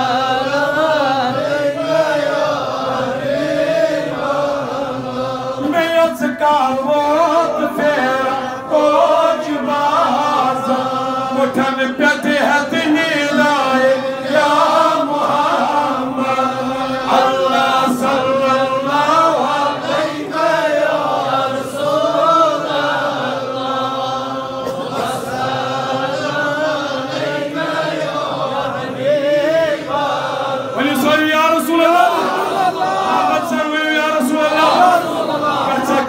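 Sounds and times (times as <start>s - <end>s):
man chanting into microphone: 0.0s - 36.0s.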